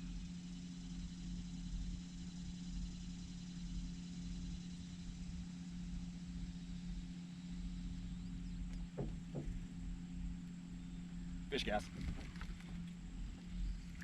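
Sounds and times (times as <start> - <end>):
small boat motor humming: 0.0 - 14.0.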